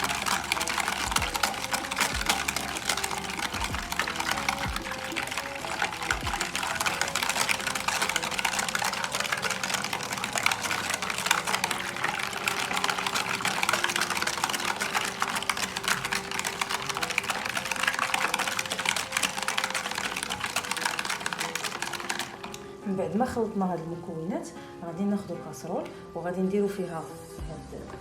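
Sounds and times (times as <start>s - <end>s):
wire whisk clicking against bowl: 0.0s - 22.6s.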